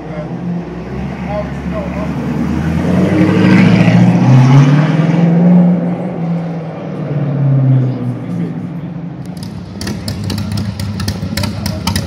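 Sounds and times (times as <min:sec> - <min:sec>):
sports car passing by: 0:00.0 - 0:12.0.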